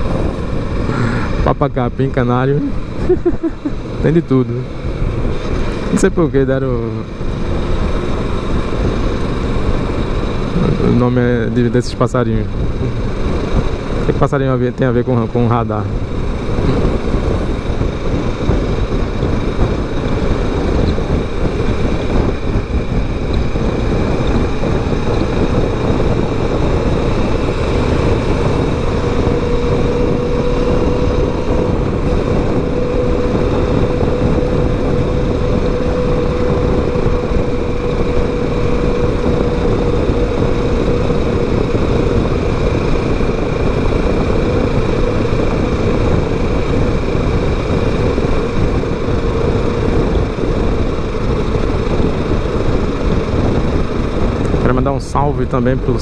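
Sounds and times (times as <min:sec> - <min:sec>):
motorcycle engine cruising: 0:00.0 - 0:56.0
steady hum: 0:00.0 - 0:56.0
wind rushing over microphone: 0:00.0 - 0:56.0.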